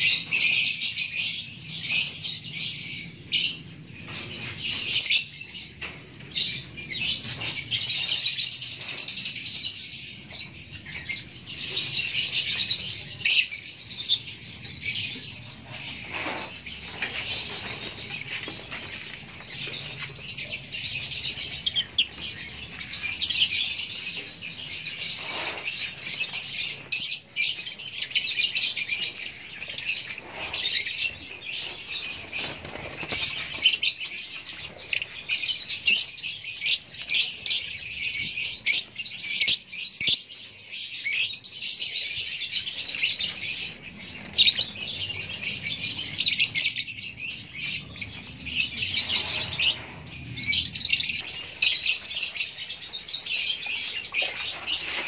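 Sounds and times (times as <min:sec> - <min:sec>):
lovebirds chirping: 0:00.0 - 0:55.0.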